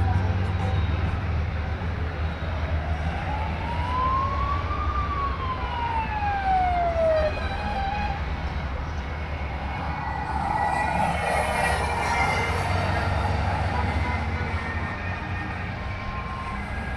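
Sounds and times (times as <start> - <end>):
motorcycle engines rumbling: 0.0 - 16.9
siren wail: 2.2 - 16.9.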